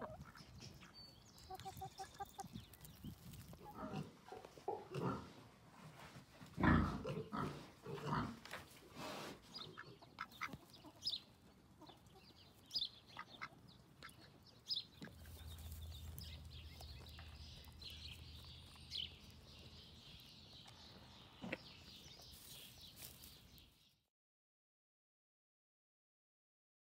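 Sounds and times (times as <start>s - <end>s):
poultry clucking and chirping: 0.0s - 23.8s.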